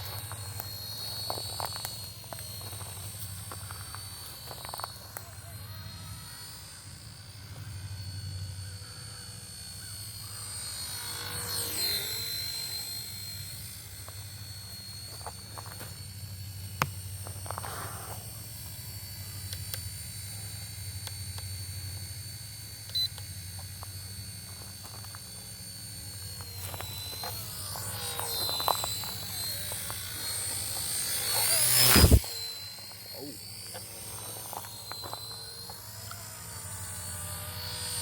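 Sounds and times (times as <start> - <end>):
low hum: 0.0 - 38.0
radio-controlled helicopter whine: 0.0 - 38.0.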